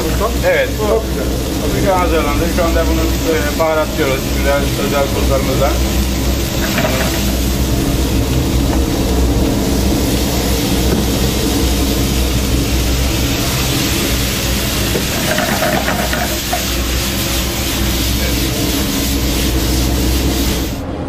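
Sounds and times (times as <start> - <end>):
gas burners roaring: 0.0 - 21.0.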